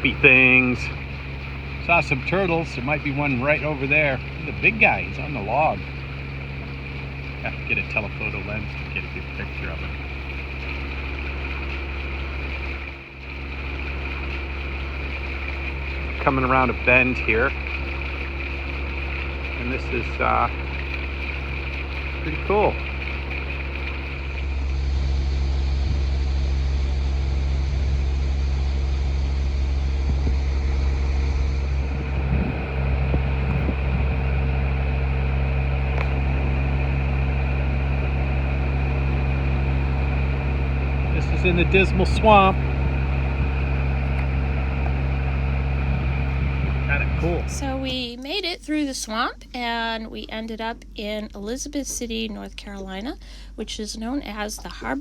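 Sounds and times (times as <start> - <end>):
high engine whine: 0.0 - 50.4
boat engine droning: 0.0 - 55.0.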